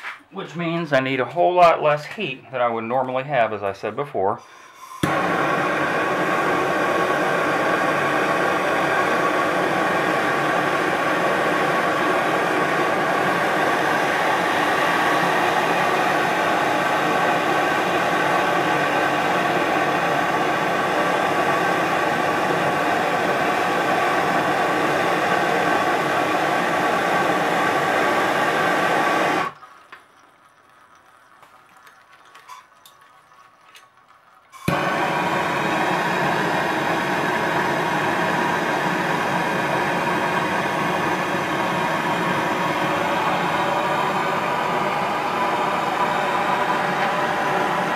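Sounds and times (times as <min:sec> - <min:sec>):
gas torch flame: 0:04.4 - 0:30.3, 0:34.5 - 0:47.9.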